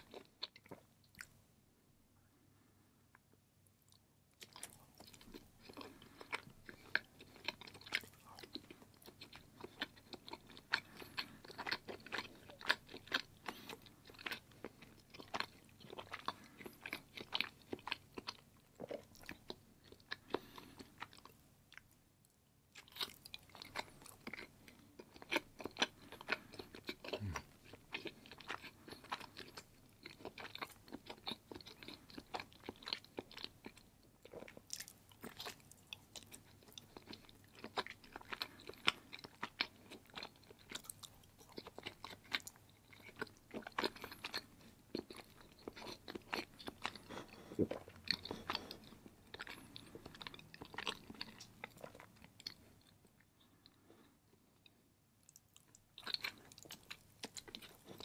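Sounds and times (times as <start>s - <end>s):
person chewing cheese: 0.0s - 1.4s, 3.7s - 58.0s.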